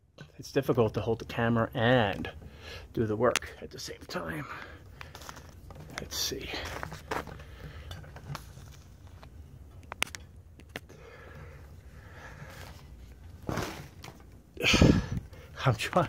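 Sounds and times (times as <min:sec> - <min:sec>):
low steady hum: 0:00.0 - 0:16.0
cable rustling: 0:01.9 - 0:16.0.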